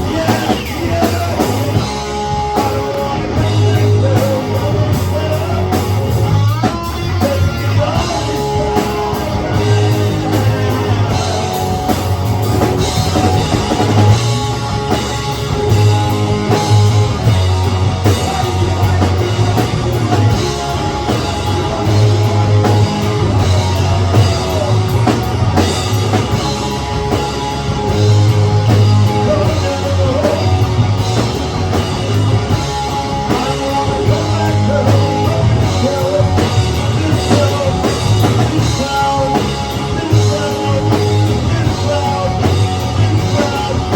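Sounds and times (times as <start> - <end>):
rock band playing: 0.0 - 43.9.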